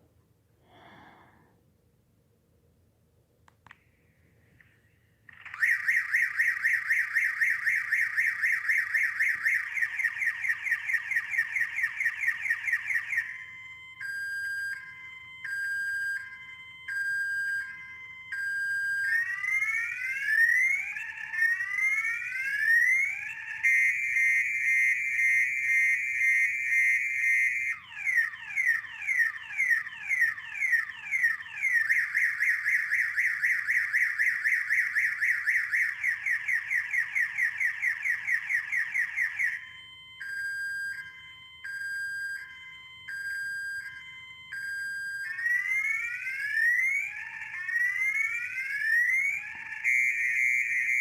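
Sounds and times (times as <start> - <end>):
multi-tone car alarm siren: 5.2 - 51.0.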